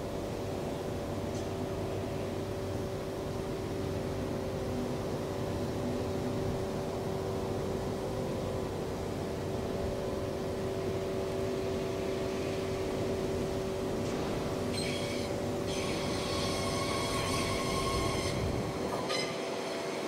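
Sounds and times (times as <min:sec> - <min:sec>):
train engine humming: 0:00.0 - 0:20.0.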